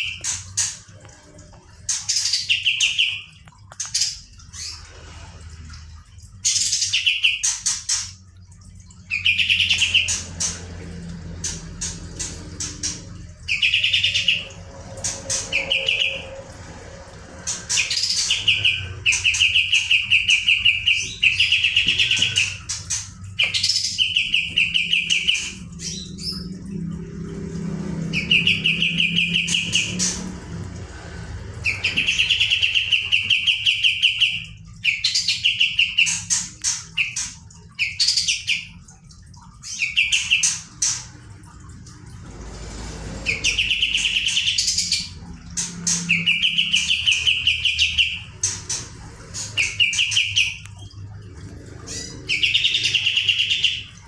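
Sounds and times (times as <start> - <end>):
bird chirps and trills: 0.0 - 54.0.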